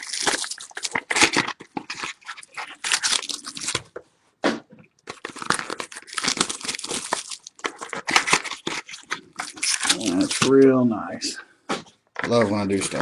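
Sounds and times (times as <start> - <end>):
card pack wrappers tearing and crinkling: 0.0 - 3.9, 5.0 - 10.8, 12.2 - 13.0.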